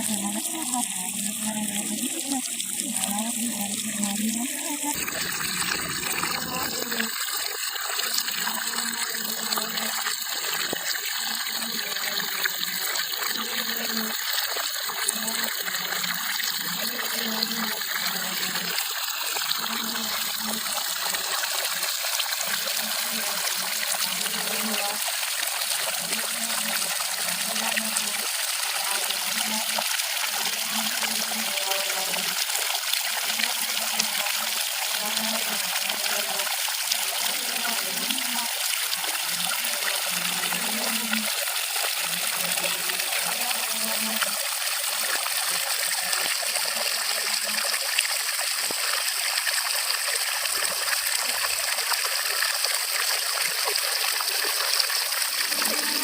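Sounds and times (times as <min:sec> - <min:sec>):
water flowing and trickling: 0:00.0 - 0:56.0.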